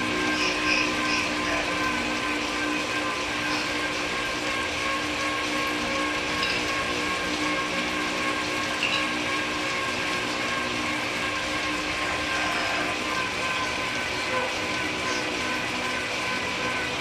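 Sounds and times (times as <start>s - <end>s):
bike trainer whining: 0.0s - 17.0s.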